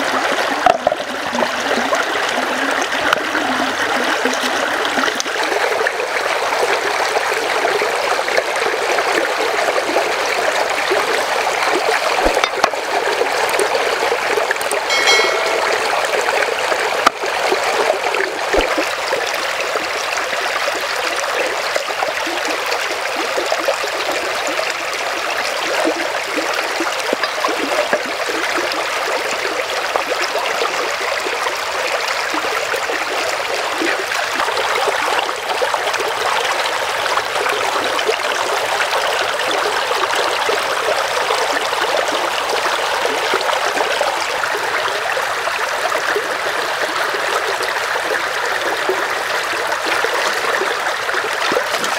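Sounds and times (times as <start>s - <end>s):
stream running over rocks: 0.0s - 16.4s, 18.2s - 51.9s.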